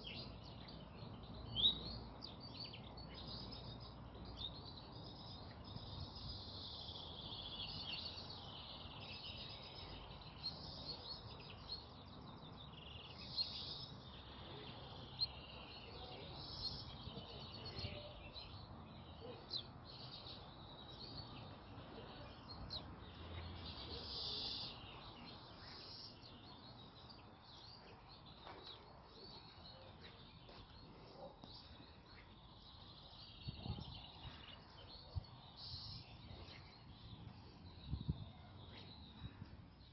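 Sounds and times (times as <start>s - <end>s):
chaffinches singing: 0.0s - 39.9s
faint outdoor hiss: 0.0s - 39.9s.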